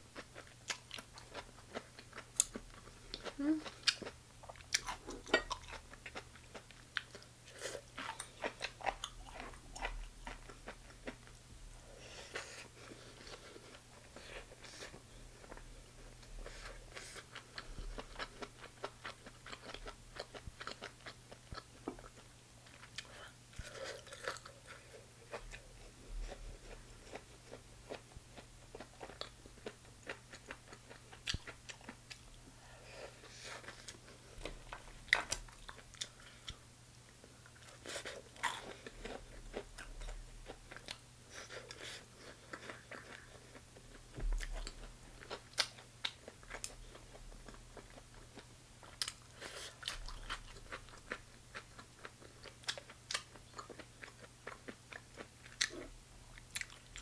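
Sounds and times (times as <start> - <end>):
faint low hum: 0.0 - 57.0
chewing and crunching: 0.1 - 11.4, 12.1 - 32.3, 32.9 - 36.6, 37.4 - 57.0.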